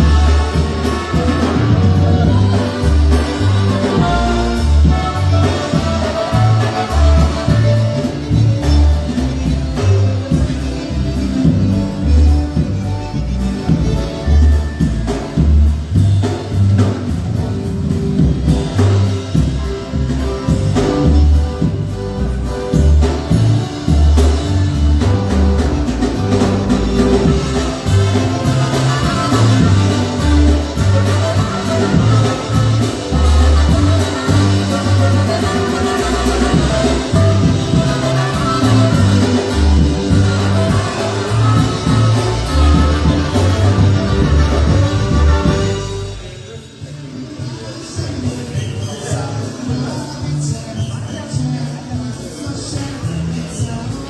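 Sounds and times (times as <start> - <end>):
loud steady bass line: 0.0 - 46.5
polka band playing: 0.0 - 54.0.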